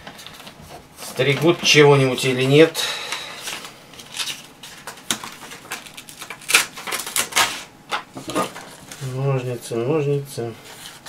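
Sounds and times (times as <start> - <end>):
notepad rustling: 0.0 - 9.2.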